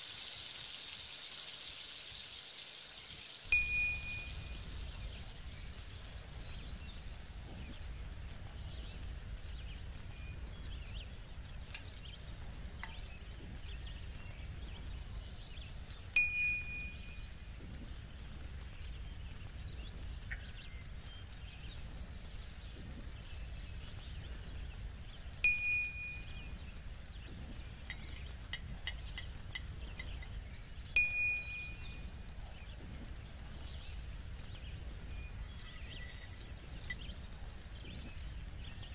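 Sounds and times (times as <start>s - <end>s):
faint steady background: 0.0s - 38.9s.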